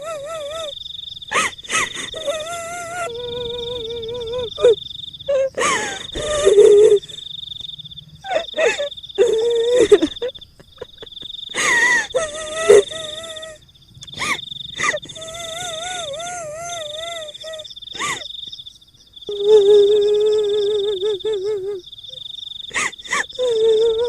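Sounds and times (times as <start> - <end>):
female ghost voice wailing: 0.0 - 7.2, 8.3 - 18.2, 19.3 - 21.8, 22.7 - 24.0
high insect-like trill: 0.0 - 24.0.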